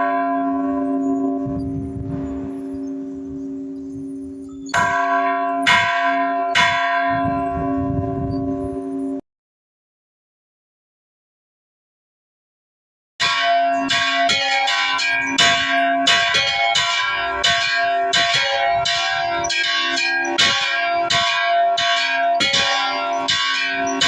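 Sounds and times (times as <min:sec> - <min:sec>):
church bells ringing: 0:00.0 - 0:09.2, 0:13.2 - 0:24.0.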